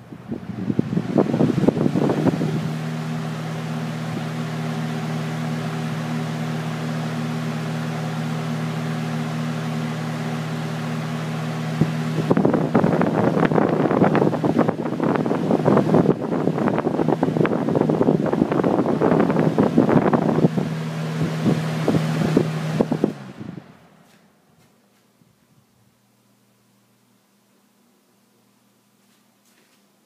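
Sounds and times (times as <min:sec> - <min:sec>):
airflow buffeting microphone: 0:00.0 - 0:24.2
box fan motor hum: 0:00.0 - 0:30.0.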